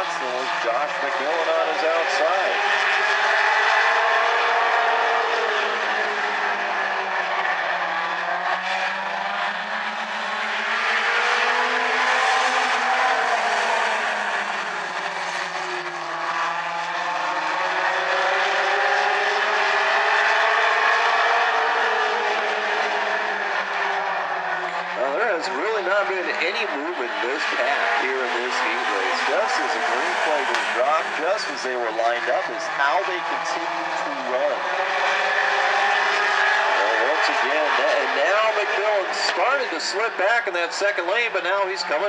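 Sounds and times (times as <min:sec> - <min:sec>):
race car engines racing: 0:00.0 - 0:42.0.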